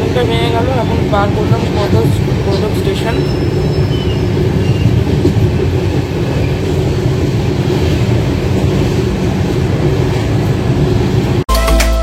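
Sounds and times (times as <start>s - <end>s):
train wheels rumbling: 0.0s - 11.4s.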